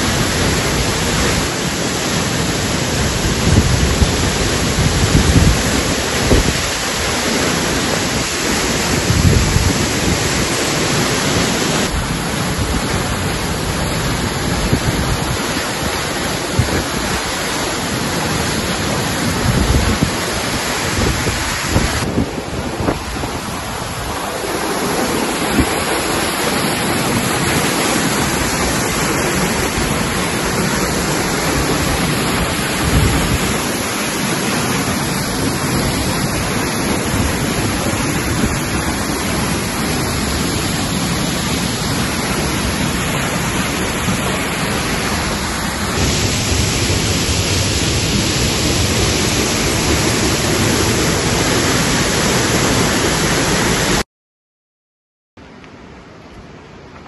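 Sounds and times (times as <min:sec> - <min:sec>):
waterfall roaring: 0:00.0 - 0:54.0, 0:55.4 - 0:57.0.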